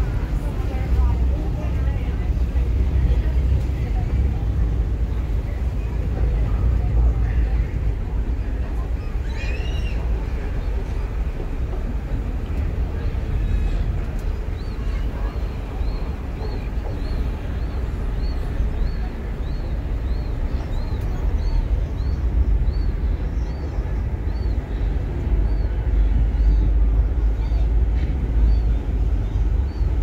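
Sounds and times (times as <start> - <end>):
faint voices: 0.0 - 30.0
ferry engine rumble: 0.0 - 30.0
wind: 0.0 - 30.0.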